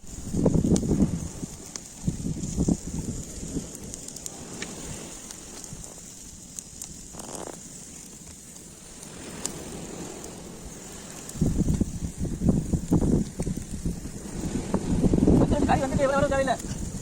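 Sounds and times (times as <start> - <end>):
cooking fire crackling: 0.0 - 17.0.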